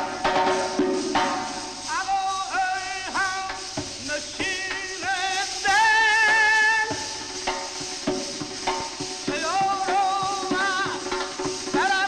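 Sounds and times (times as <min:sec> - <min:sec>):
drum strokes: 0:00.0 - 0:12.0.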